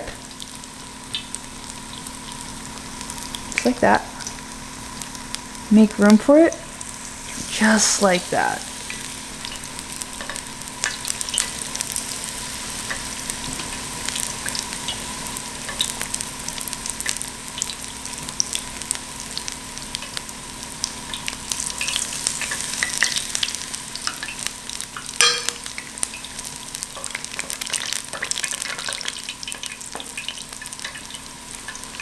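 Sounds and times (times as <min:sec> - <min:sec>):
food frying in hot oil: 0:00.0 - 0:32.0.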